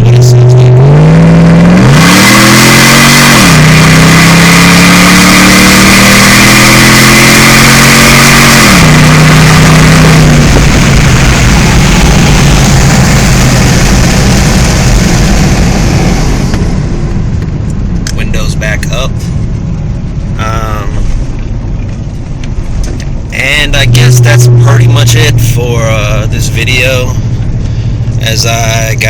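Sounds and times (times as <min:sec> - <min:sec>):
car engine at full throttle: 0:00.0 - 0:29.0
wind and road noise: 0:00.0 - 0:29.0.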